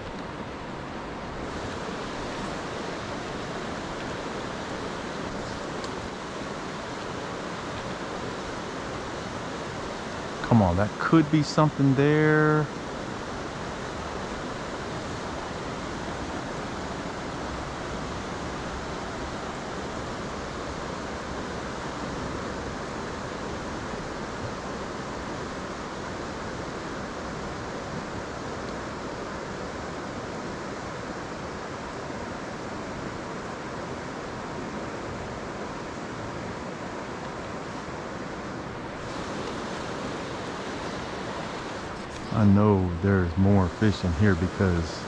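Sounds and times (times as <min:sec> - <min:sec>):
stream water rushing over rocks: 0:00.0 - 0:45.0.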